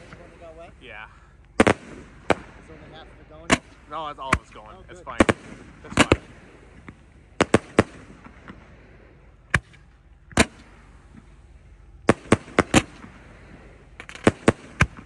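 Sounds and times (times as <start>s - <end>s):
firework bangs: 0.0s - 1.0s, 1.6s - 15.0s.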